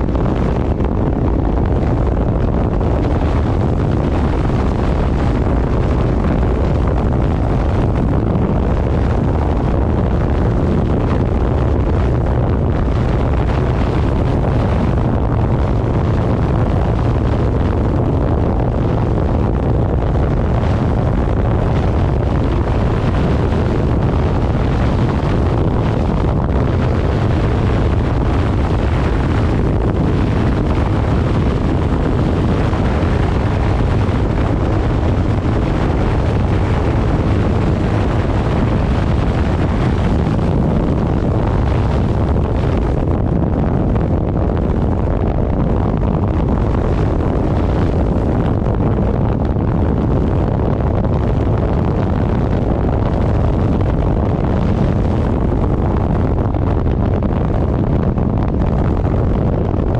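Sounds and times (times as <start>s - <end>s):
motorcycle drone: 0.0s - 59.9s
wind rushing over microphone: 0.0s - 59.9s.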